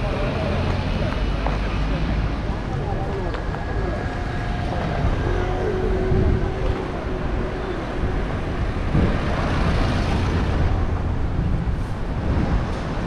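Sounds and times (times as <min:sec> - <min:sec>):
cars and scooters passing: 0:00.0 - 0:13.0
low traffic rumble: 0:00.0 - 0:13.0.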